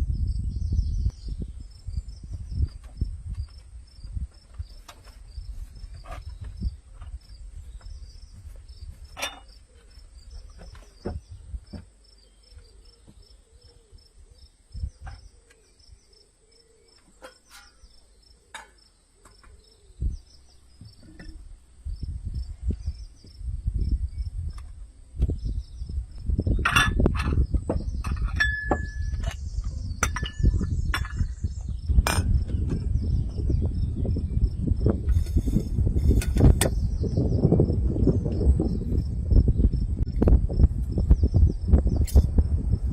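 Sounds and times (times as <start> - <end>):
crickets chirping: 0.0 - 42.8.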